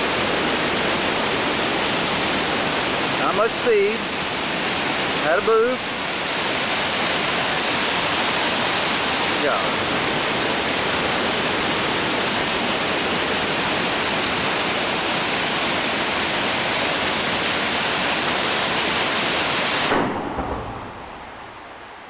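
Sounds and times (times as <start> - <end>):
whitewater rushing: 0.0 - 22.0.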